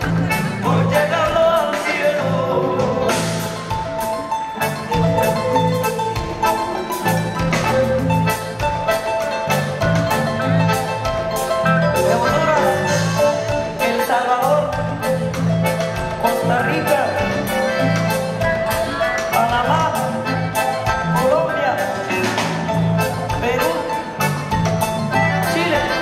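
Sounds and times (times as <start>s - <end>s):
percussion beat: 0.0s - 26.0s.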